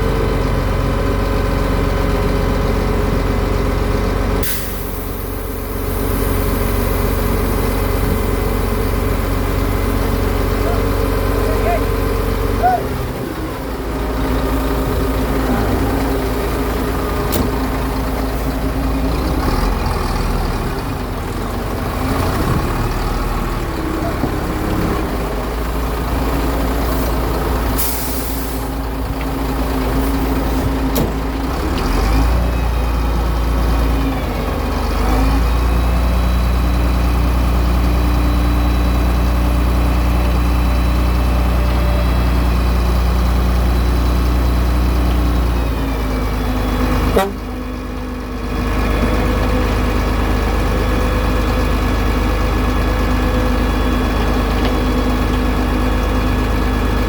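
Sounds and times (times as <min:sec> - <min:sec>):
heavy diesel truck engines: 0:00.0 - 0:57.0.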